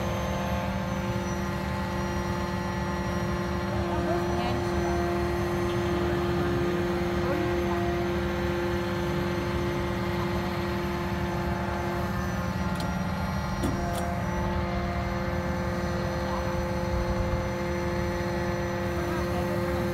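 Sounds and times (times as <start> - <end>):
hydraulic power unit drone: 0.0 - 19.9
hydraulic pump whine: 0.0 - 19.9.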